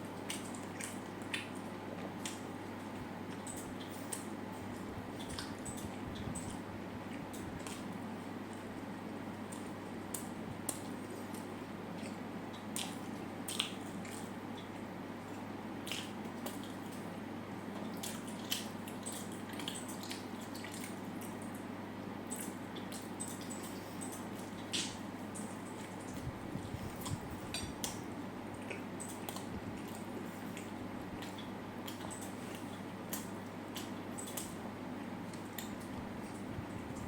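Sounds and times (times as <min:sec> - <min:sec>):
chewing food: 0:00.0 - 0:37.0.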